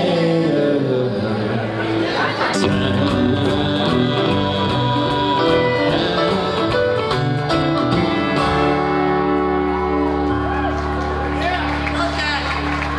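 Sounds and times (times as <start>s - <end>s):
live band playing: 0.0s - 12.9s.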